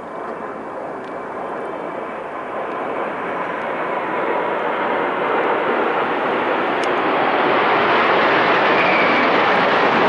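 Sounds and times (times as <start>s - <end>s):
low-flying aircraft engines droning: 0.0s - 10.0s.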